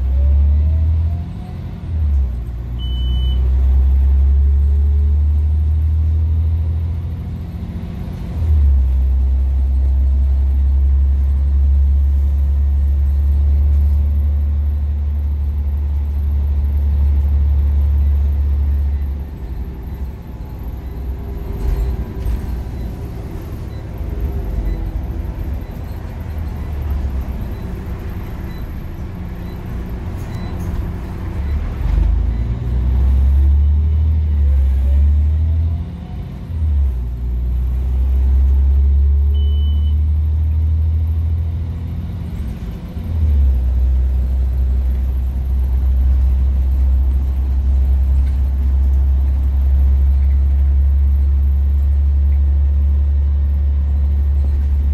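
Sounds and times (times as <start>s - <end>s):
bus engine drone: 0.0s - 54.9s.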